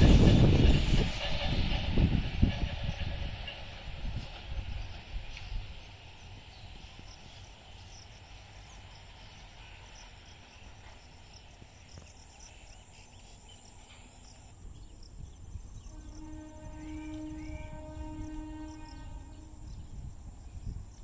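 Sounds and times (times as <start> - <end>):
passing train rumble: 0.0 - 21.0
insects chirping: 2.0 - 21.0.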